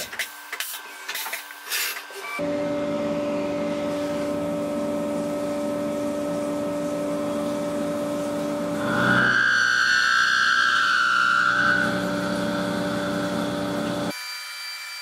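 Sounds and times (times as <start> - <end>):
high mechanical whine: 0.0 - 14.2
cnc mill mechanical hum: 2.1 - 15.0.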